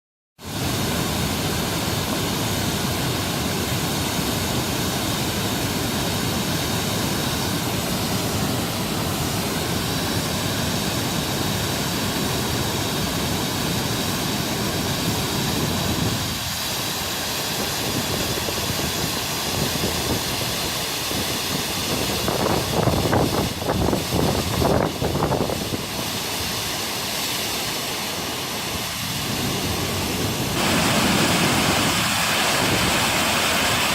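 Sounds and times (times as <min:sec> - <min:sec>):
rush of falling water: 0:00.4 - 0:33.9.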